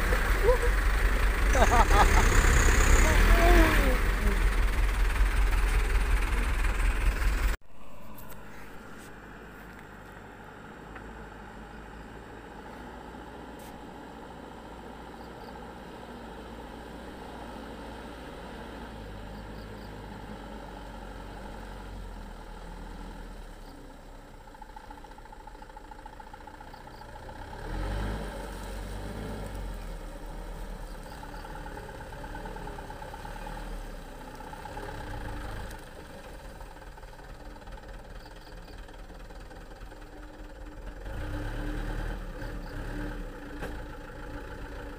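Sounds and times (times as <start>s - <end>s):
truck engine running at low speed: 0.0s - 44.9s.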